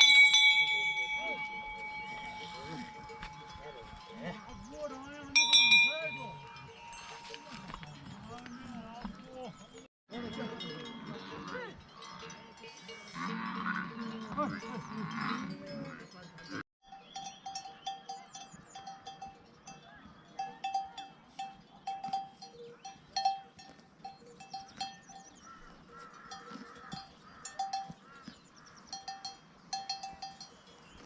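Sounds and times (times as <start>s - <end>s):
livestock bells clinking: 0.0s - 31.0s.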